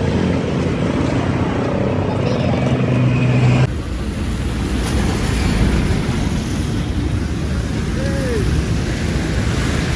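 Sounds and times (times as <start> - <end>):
engine and road rumble: 0.0 - 9.9
vehicle engine hum: 0.0 - 9.9.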